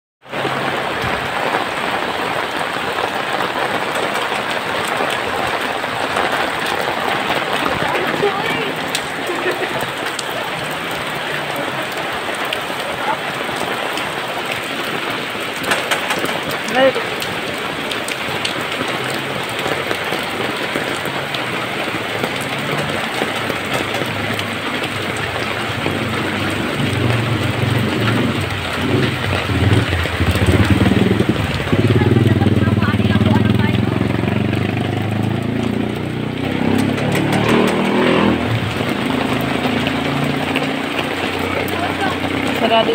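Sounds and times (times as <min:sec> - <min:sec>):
heavy rain on wet street: 0:00.2 - 0:42.9.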